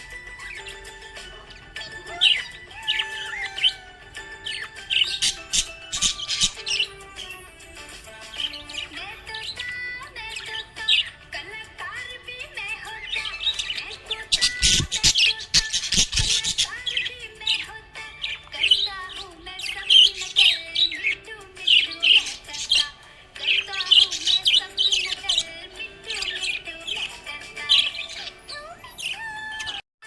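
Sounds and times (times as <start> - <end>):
budgerigars chirping: 0.0 - 29.8
harsh clicks and scratchy calls: 0.0 - 29.8.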